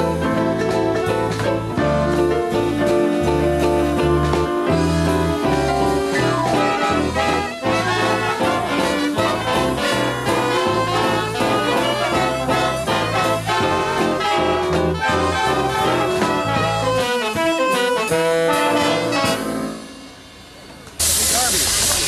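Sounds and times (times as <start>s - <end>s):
swing big band playing: 0.0s - 22.0s.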